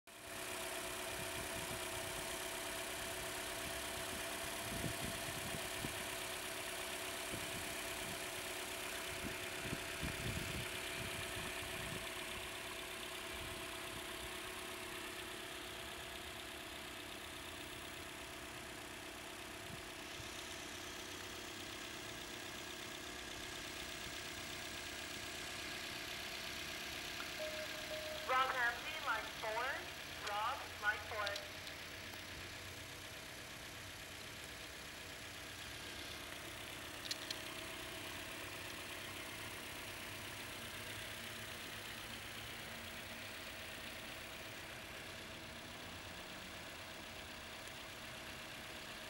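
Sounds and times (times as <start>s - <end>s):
car engine idling: 0.1s - 49.0s.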